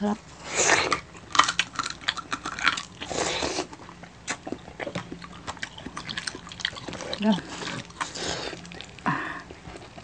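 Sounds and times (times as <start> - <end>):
crunchy bites and chewing: 0.3 - 10.0.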